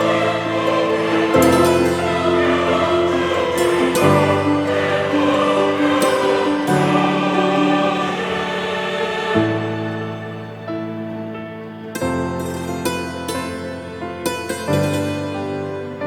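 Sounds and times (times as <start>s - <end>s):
choir singing held chords: 0.0s - 13.5s
low sustained notes: 0.0s - 16.0s.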